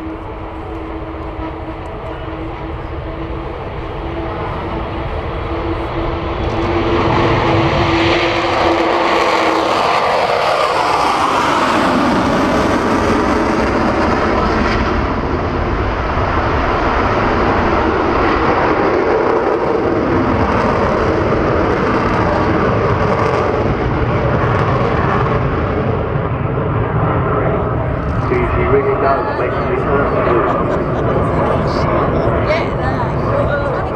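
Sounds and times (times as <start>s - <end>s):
jet engines roaring: 0.0s - 33.9s.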